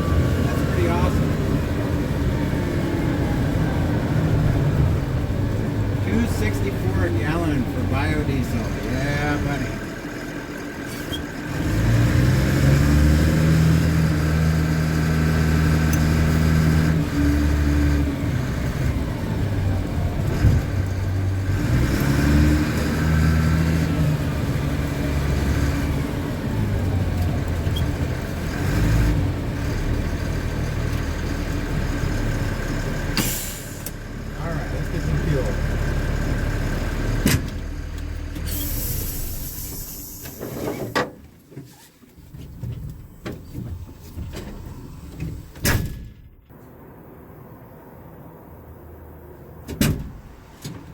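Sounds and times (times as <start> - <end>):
truck diesel engine pulling away: 0.0 - 40.9.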